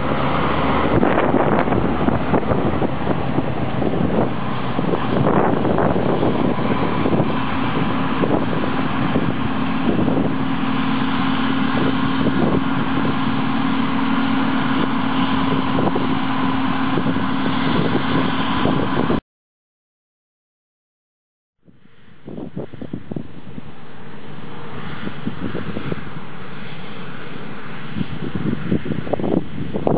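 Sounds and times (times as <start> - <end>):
combine harvester running: 0.0 - 19.2, 21.7 - 29.9.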